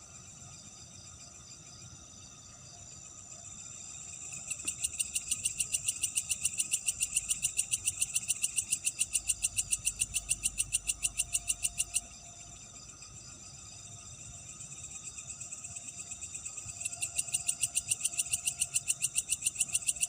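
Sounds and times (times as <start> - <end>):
insects chirring chorus: 0.0 - 20.0
insect rapid pulsed call: 0.1 - 20.0.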